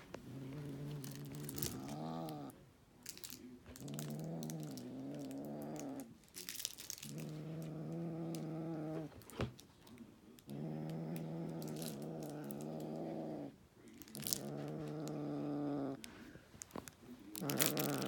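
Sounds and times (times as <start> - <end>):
kitten growling: 0.0 - 2.6, 3.6 - 9.6, 10.4 - 16.4, 17.3 - 18.0.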